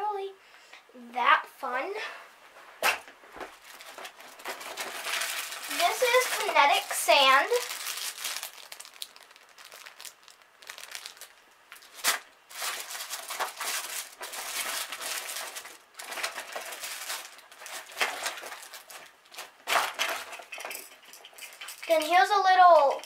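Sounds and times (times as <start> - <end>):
plastic packaging crinkling: 3.5 - 22.9.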